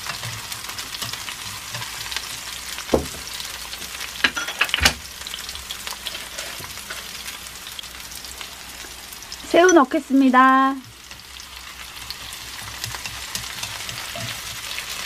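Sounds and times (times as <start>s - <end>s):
onion sizzling in oil: 0.0s - 15.0s.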